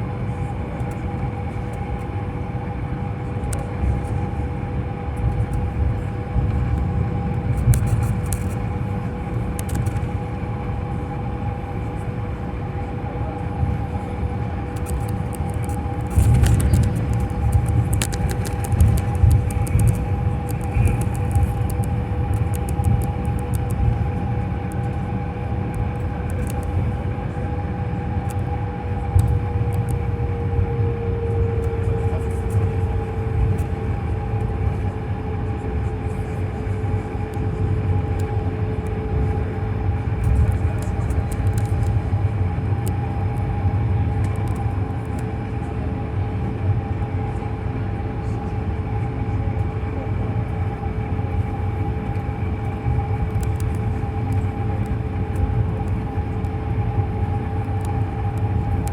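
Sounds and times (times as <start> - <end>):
airliner cabin rumble: 0.0 - 58.9
jet engines whining: 0.1 - 58.8.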